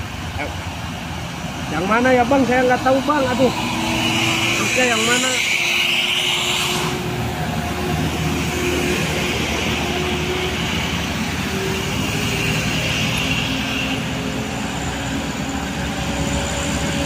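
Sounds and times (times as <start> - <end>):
cars and motorbikes passing: 0.0 - 17.0
truck diesel engine under load: 0.0 - 17.0.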